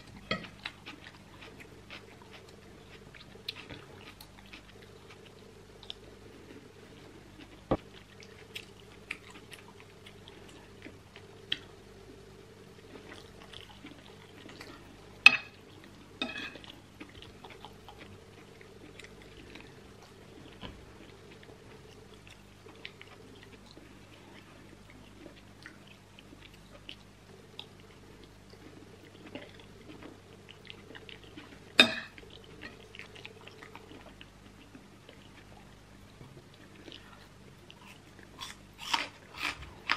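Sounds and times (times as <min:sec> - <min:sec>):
faint steady hum: 0:00.0 - 0:39.9
chewing and mouth sounds: 0:00.1 - 0:06.7, 0:07.3 - 0:11.7, 0:16.5 - 0:39.9.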